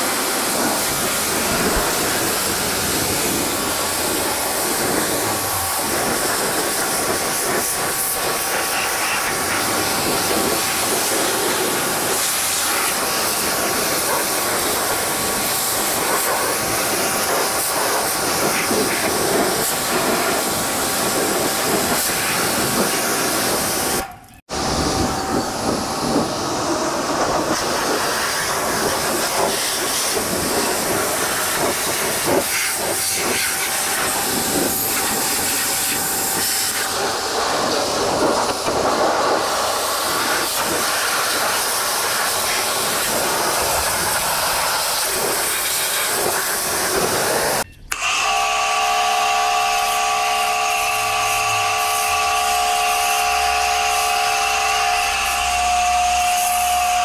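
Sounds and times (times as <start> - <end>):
pressure washer spraying metal: 0.0 - 57.0.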